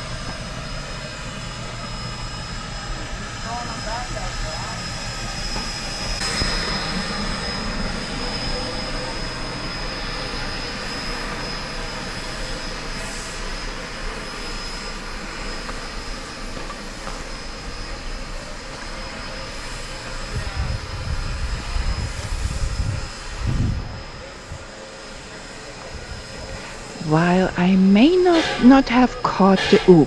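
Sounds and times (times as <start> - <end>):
steam hissing: 0.0 - 30.0.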